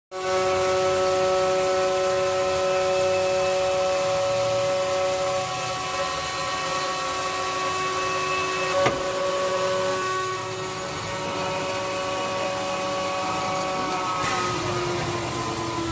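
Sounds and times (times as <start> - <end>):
cutting machine motor whine: 0.2 - 15.9.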